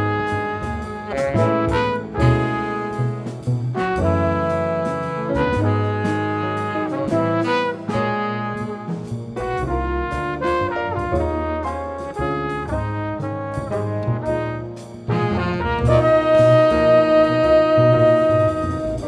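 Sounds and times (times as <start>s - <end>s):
drums with cymbal strokes: 0.0s - 19.0s
piano: 0.0s - 19.0s
plucked double bass: 0.0s - 19.0s
trumpet and saxophone melody: 0.0s - 19.0s.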